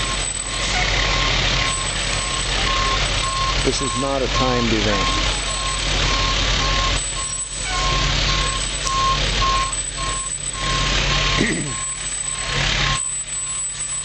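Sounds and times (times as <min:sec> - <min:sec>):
truck backup alarm beeping: 0:00.0 - 0:14.0
truck engine rumble: 0:00.0 - 0:14.0.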